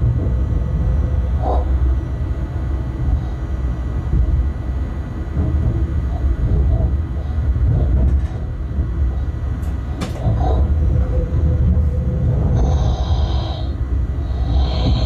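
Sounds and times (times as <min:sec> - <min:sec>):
train rumbling in cab: 0:00.0 - 0:15.0.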